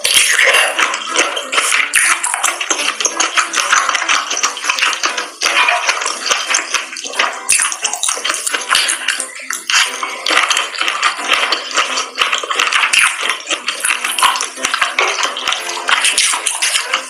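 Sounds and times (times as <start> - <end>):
wet crackly chewing: 0.0 - 17.0.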